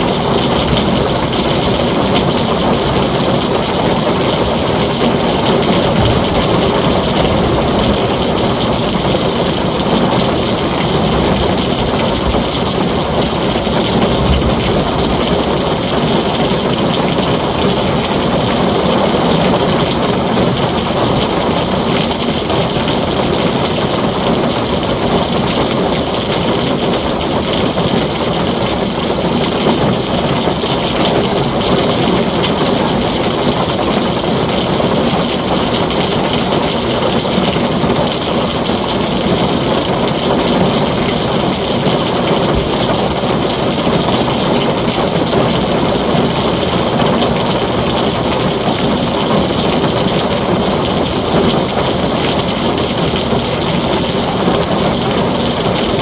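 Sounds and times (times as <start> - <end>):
heavy rain on a tin roof: 0.0 - 56.0.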